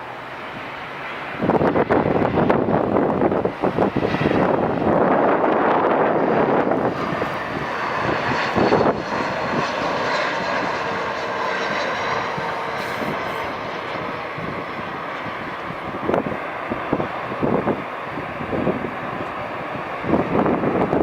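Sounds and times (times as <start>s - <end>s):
jet engines passing by: 0.0s - 21.0s.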